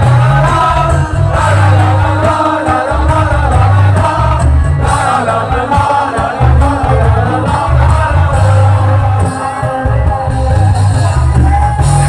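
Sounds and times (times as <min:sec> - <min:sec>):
live rock band: 0:00.0 - 0:12.0
person singing: 0:00.0 - 0:12.0.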